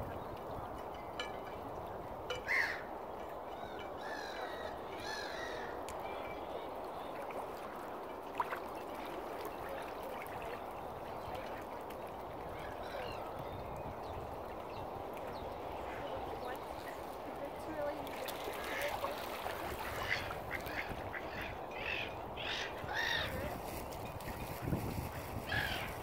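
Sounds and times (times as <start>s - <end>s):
waterbirds calling: 0.0s - 26.0s.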